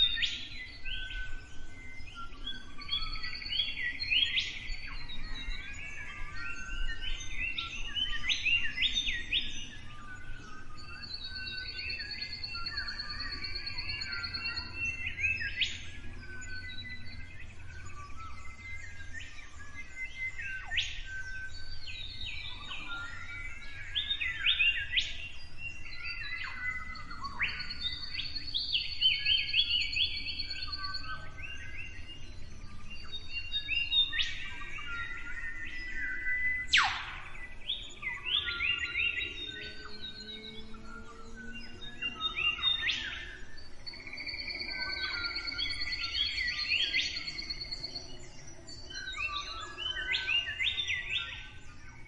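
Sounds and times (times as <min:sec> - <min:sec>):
songbirds singing and calling: 0:00.0 - 0:52.0.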